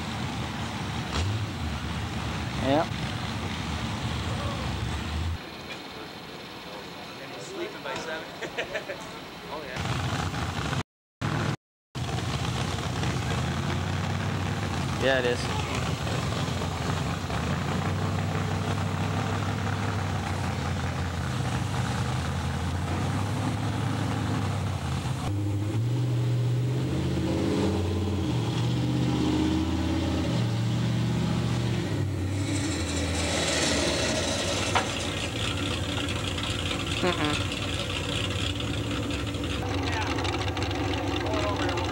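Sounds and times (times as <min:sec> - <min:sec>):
truck engine idling and revving: 0:00.0 - 0:41.9.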